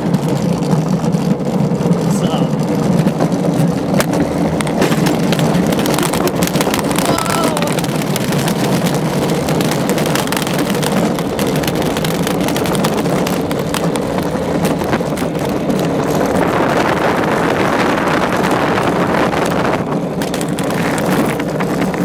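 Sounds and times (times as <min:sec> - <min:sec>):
cart clicking and rattling: 0:00.0 - 0:22.0
wheels rumbling on asphalt: 0:00.0 - 0:22.0
wind buffeting microphone: 0:00.0 - 0:22.0.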